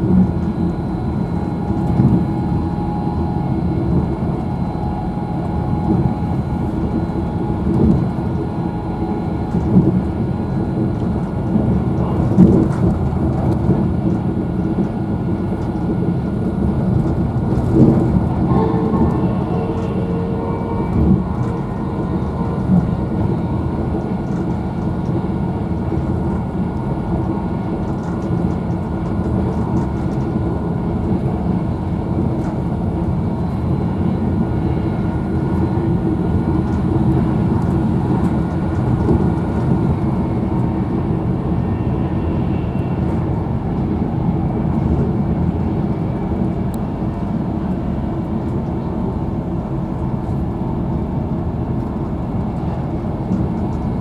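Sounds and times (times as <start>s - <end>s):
train interior rumble and hum: 0.0s - 54.0s.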